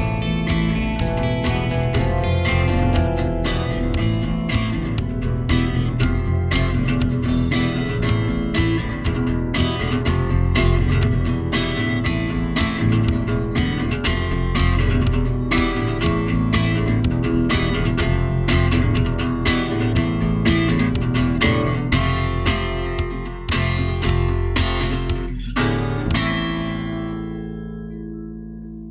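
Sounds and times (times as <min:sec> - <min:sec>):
bass line: 0:00.0 - 0:28.9
strummed acoustic guitar: 0:00.0 - 0:28.9.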